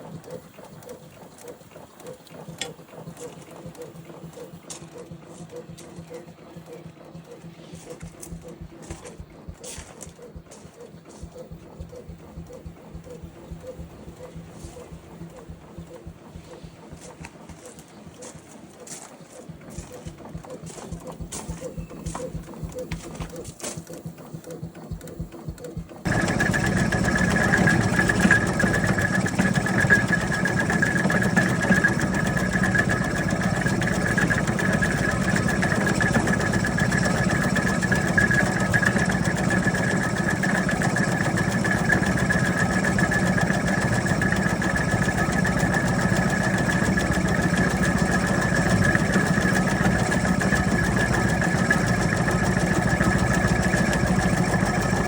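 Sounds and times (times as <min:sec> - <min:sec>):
faint rhythmic ticking: 0:00.0 - 0:55.0
high mechanical whine: 0:00.0 - 0:55.0
steam tractor running: 0:00.0 - 0:55.0.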